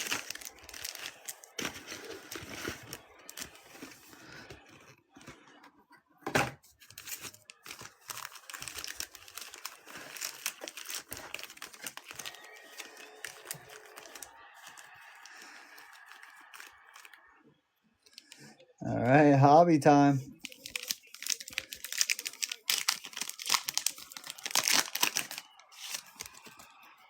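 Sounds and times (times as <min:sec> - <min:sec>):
plastic wrapping crinkling and tearing: 0:00.0 - 0:05.2, 0:06.7 - 0:17.2, 0:20.3 - 0:26.8.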